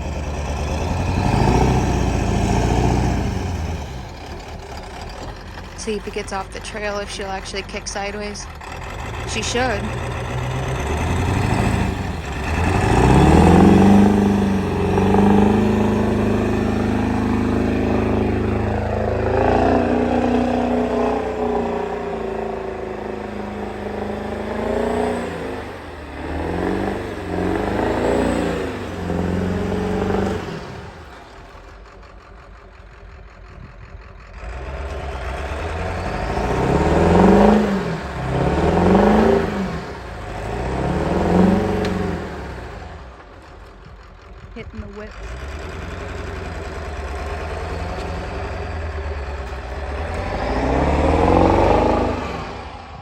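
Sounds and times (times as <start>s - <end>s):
diesel pickup engine revving: 0.0s - 53.0s.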